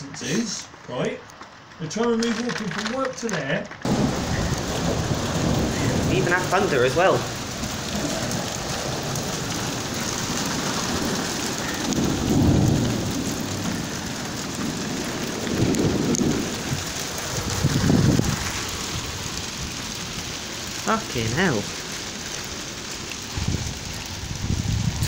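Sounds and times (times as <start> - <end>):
hail and snow falling: 0.0 - 25.0
thunder rumbles: 3.8 - 25.0.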